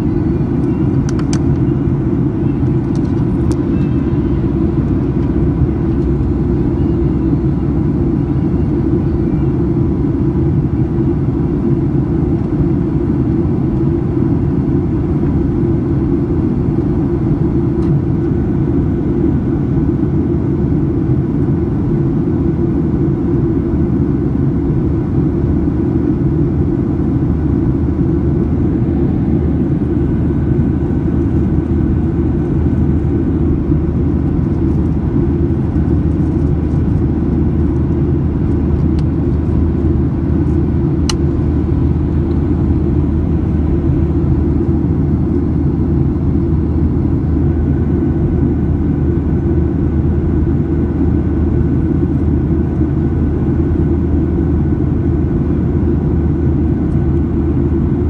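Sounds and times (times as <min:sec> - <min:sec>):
aircraft cabin engine rumble: 0:00.0 - 0:58.0
faint steady whines: 0:00.0 - 0:58.0.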